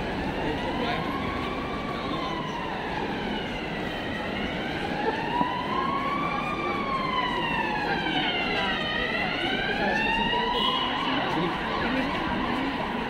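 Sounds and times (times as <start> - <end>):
city street traffic: 0.0 - 13.0
siren wailing: 0.0 - 13.0.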